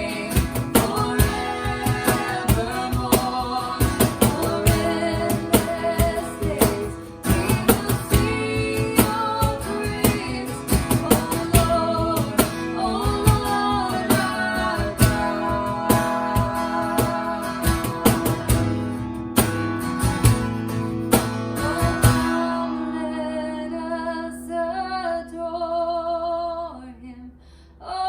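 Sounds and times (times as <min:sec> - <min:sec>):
people singing: 0:00.0 - 0:19.0, 0:21.2 - 0:27.1
strummed acoustic guitar: 0:00.0 - 0:24.6.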